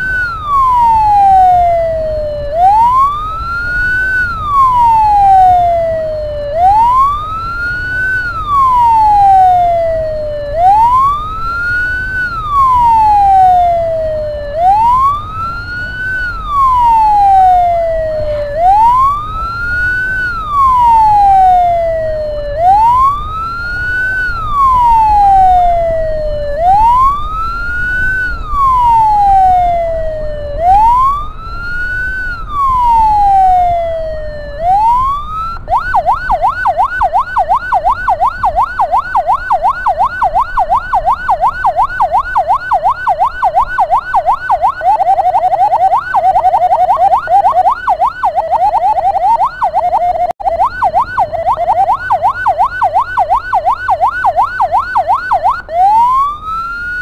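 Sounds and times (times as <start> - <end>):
ambulance siren wailing: 0.0 - 57.0
low rumble of vehicle noise: 0.0 - 57.0.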